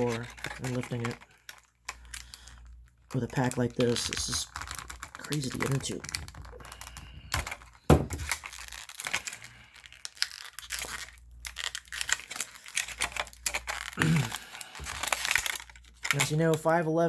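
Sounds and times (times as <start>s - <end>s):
plastic blister pack crackling: 0.0s - 17.0s.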